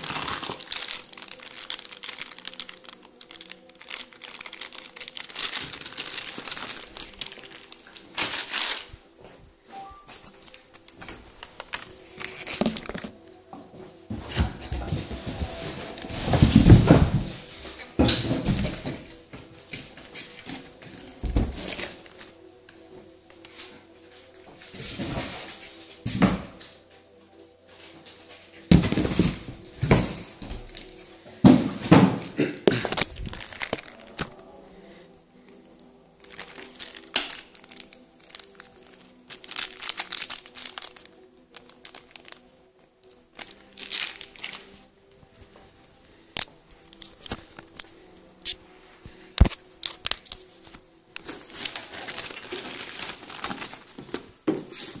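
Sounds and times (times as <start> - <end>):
plastic bags crinkling: 0.0 - 9.2, 9.9 - 13.3, 14.3 - 26.0, 28.2 - 55.0.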